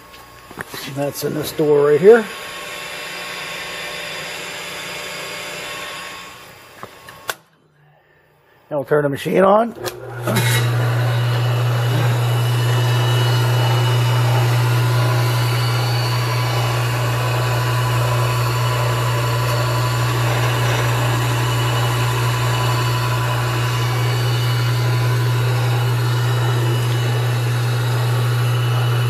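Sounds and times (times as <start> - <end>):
electric motor humming: 0.0 - 7.3, 9.8 - 29.0
grinder spindle whirring: 0.0 - 7.4, 9.8 - 29.0.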